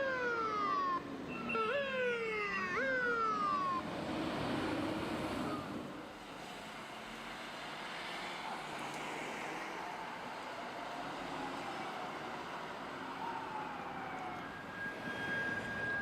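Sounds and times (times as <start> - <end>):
emergency siren sweeping down: 0.0 - 6.0, 8.3 - 16.0
busy street traffic: 0.0 - 16.0.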